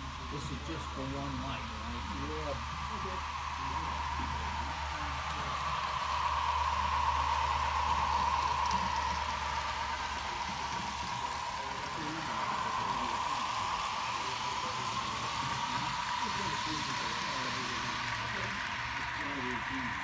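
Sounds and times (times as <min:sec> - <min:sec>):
low hum: 0:00.0 - 0:20.0
model train motor whine: 0:00.0 - 0:20.0.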